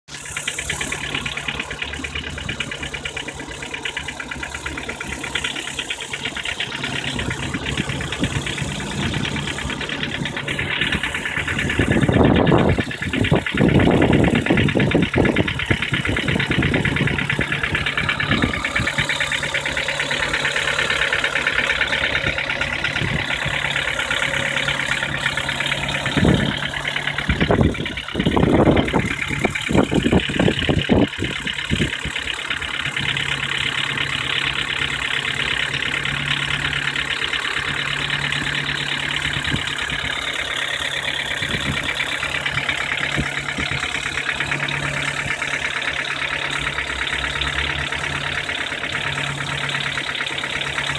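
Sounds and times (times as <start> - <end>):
engine idling with rapid knock: 0.0 - 50.9.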